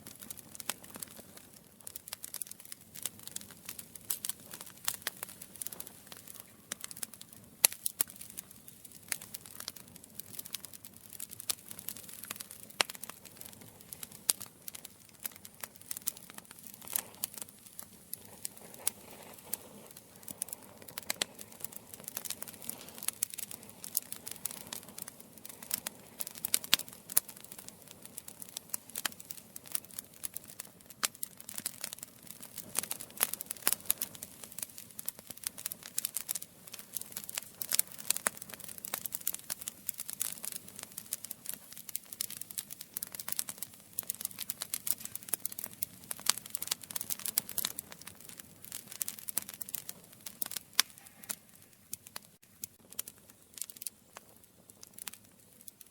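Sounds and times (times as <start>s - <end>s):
campfire crackling and popping: 0.0s - 55.9s
soft low fire hiss: 0.0s - 55.9s.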